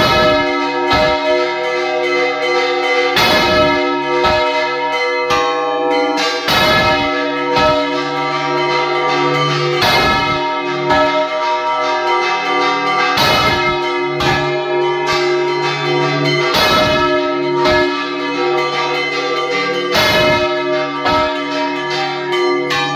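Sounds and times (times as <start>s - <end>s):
church bells ringing: 0.0s - 22.9s.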